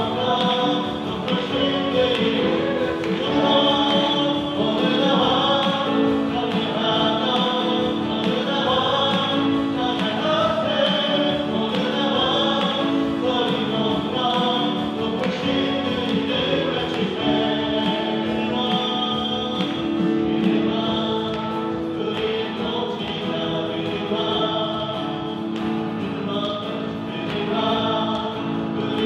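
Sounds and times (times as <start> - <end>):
band with guitar and keyboards: 0.0 - 29.0
group singing worship song: 0.0 - 29.0.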